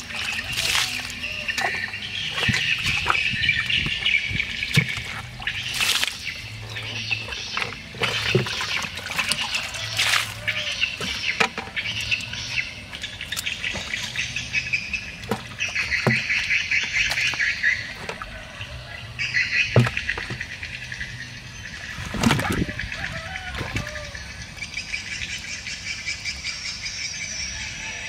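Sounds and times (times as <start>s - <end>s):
muddy water splashing: 0.0s - 26.5s
birds chirping: 0.0s - 28.0s.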